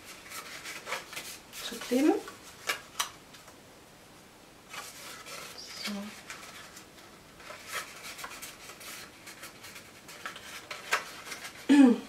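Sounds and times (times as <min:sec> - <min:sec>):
cardstock rustling and rubbing: 0:00.0 - 0:03.0, 0:04.7 - 0:11.7.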